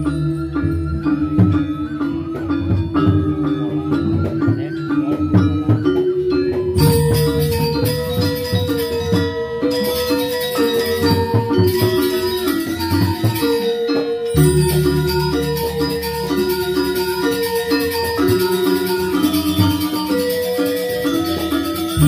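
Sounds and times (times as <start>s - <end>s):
gamelan metallophones: 0.0s - 22.0s
gong and drum tones: 0.0s - 22.0s
shimmering metallic layer: 0.0s - 22.0s.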